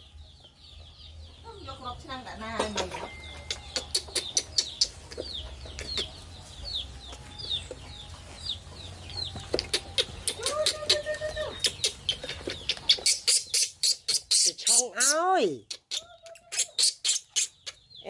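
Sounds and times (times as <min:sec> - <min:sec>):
chickens clucking: 0:00.0 - 0:18.0
high chirps: 0:03.1 - 0:18.0.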